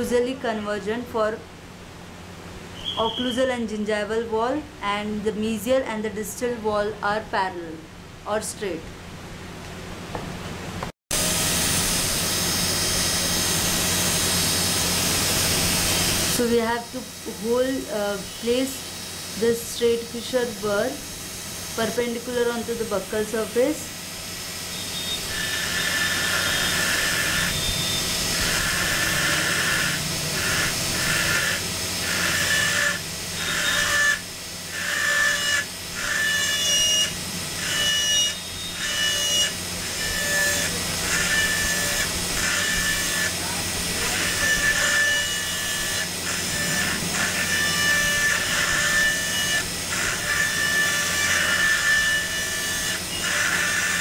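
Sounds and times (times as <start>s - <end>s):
dental drill whine: 2.8s - 3.5s, 11.1s - 54.0s.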